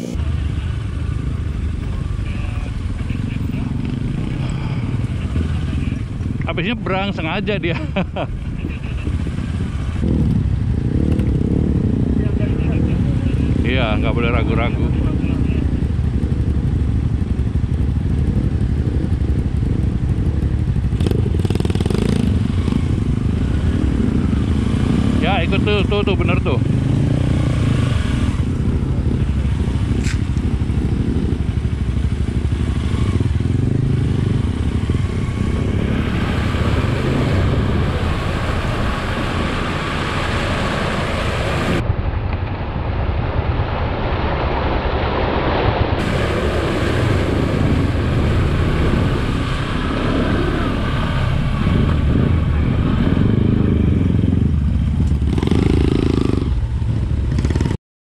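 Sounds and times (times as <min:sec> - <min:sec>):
motorcycle engine running: 0:00.0 - 0:42.3, 0:46.0 - 0:57.8
wind and road noise: 0:00.0 - 0:57.8.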